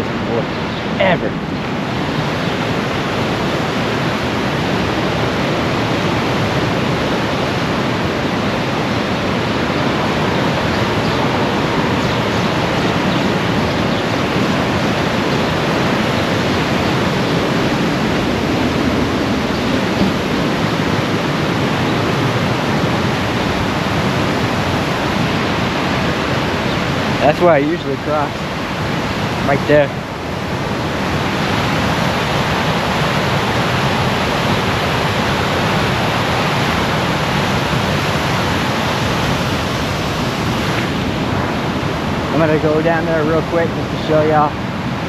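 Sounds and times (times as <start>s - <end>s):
water rushing over spillway: 0.0s - 45.0s.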